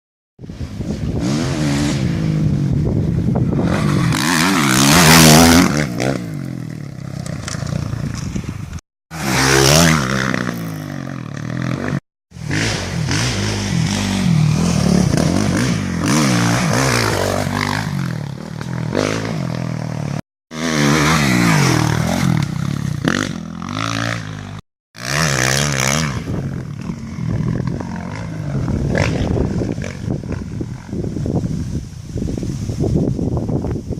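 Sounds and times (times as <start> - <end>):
motocross bike engine revving: 0.8 - 8.1, 9.2 - 31.2.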